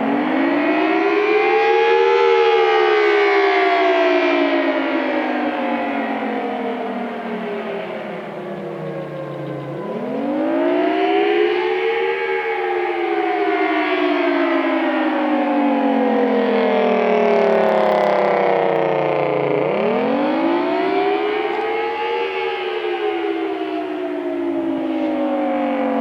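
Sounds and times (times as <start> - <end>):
warning siren rising and falling: 0.0 - 26.0.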